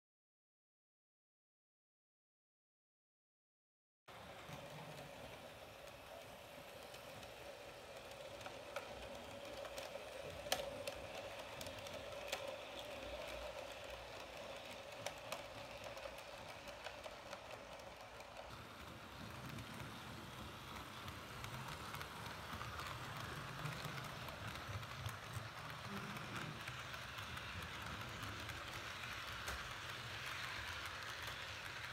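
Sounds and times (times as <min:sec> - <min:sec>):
model train motor hum: 0:04.1 - 0:31.9
wheels clicking over rail joints: 0:04.1 - 0:31.9.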